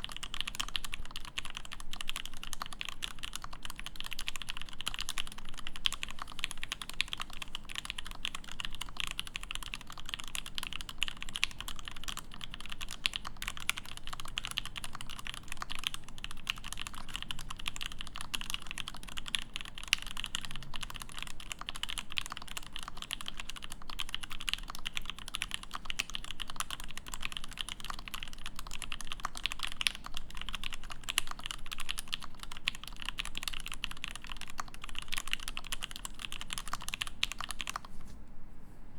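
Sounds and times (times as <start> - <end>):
mechanical keyboard typing: 0.0 - 37.9.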